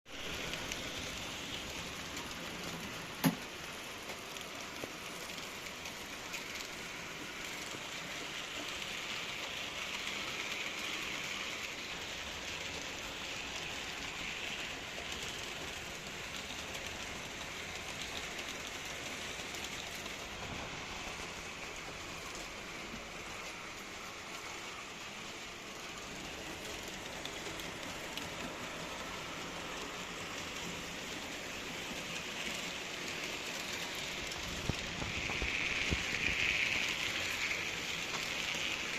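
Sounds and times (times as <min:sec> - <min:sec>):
model train wheels rattling on track: 0:00.2 - 0:38.9.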